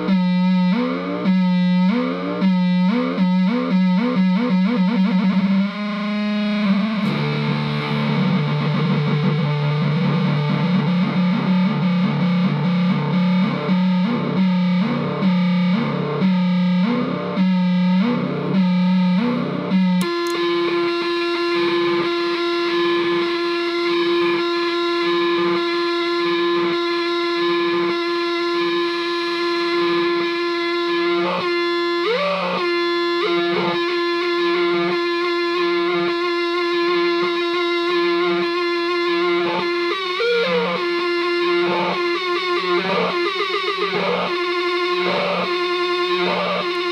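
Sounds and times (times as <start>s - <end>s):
distorted electric guitar drone: 0.0s - 46.9s.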